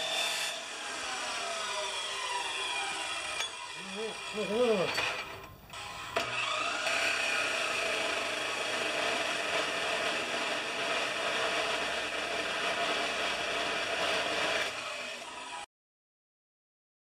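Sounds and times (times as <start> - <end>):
chop saw cutting steel: 0.0 - 15.7.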